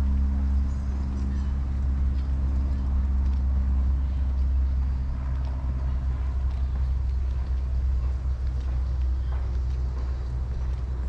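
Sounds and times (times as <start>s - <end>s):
faint low hum: 0.0s - 11.0s
wind buffeting microphone: 0.0s - 11.0s.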